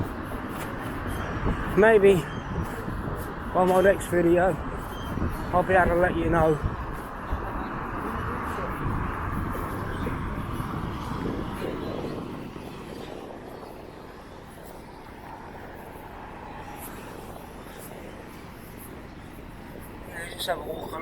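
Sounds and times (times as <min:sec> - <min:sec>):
traffic hum: 0:00.0 - 0:21.0
wind: 0:00.0 - 0:21.0.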